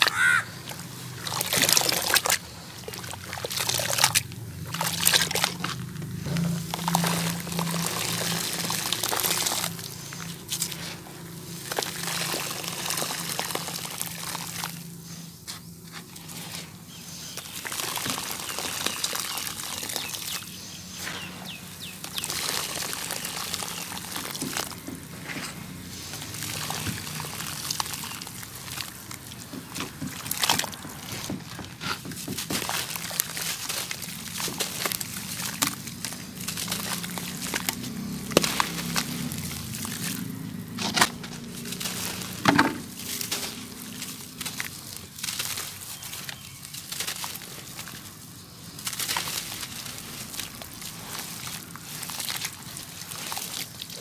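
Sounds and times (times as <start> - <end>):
water fizzing with tiny pops: 0.0 - 54.0
wet sand crunching and splashing: 0.0 - 54.0.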